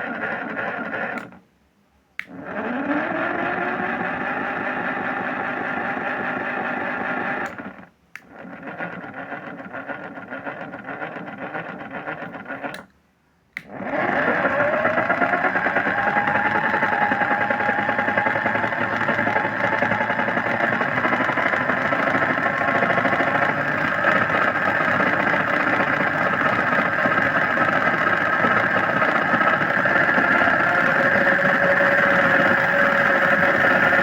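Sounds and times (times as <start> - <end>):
washing machine motor whine: 0.0 - 1.4, 2.2 - 12.8, 13.6 - 34.0.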